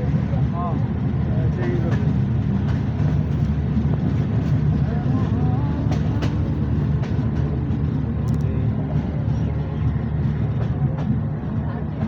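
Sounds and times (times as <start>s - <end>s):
passenger train rumbling: 0.0s - 12.0s.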